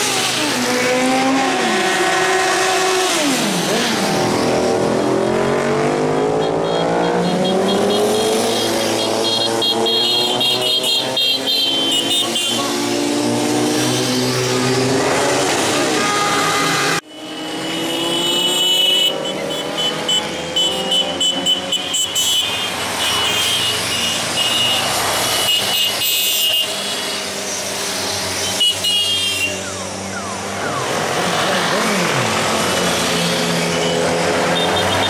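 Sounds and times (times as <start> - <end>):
vehicle engines passing: 0.0 - 35.0.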